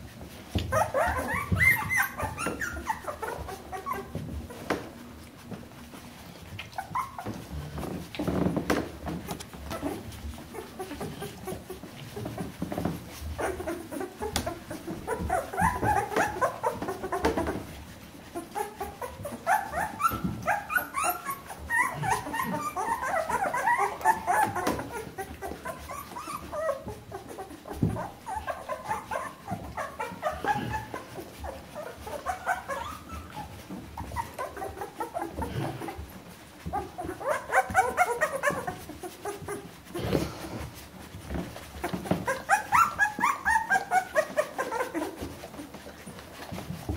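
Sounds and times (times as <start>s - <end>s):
puppies whimpering and squeaking: 0.0s - 46.9s.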